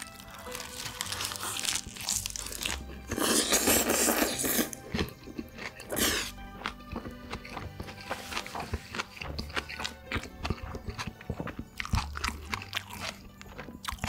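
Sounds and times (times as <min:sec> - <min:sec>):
background music: 0:00.0 - 0:14.0
crunchy chewing: 0:00.0 - 0:14.0.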